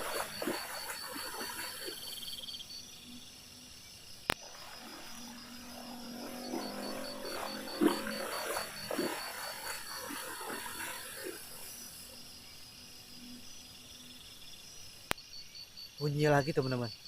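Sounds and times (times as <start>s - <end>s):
frogs and insects calling: 0.0s - 17.0s.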